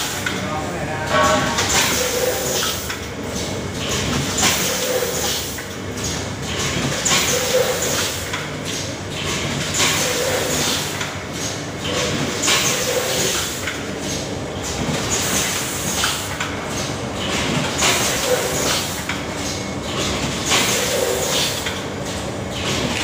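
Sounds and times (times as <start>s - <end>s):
packing machine clatter: 1.1s - 23.0s.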